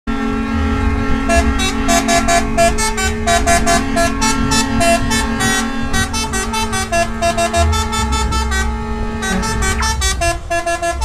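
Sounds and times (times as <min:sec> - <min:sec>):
low engine rumble: 0:00.1 - 0:11.0
steady held horn tone: 0:00.1 - 0:11.0
truck horns tooting a tune: 0:00.1 - 0:11.0.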